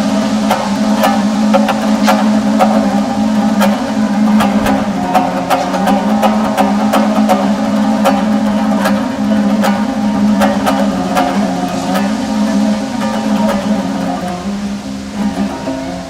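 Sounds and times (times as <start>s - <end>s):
percussive beat: 0.0s - 14.6s
held low drone: 0.0s - 16.0s.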